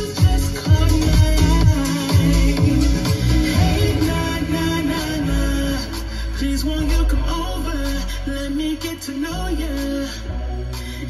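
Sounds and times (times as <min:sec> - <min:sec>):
music from car stereo: 0:00.0 - 0:11.0.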